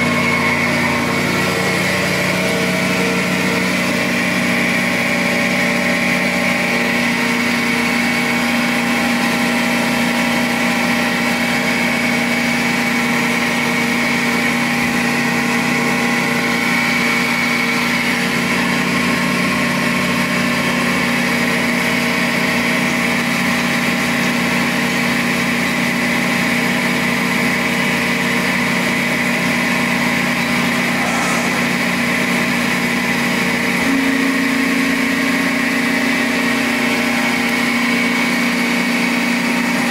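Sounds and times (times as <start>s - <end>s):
hydraulic pump humming: 0.0s - 39.9s.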